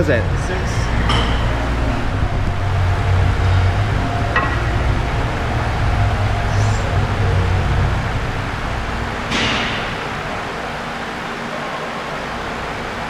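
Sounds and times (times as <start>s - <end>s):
gym background rumble: 0.0s - 13.0s.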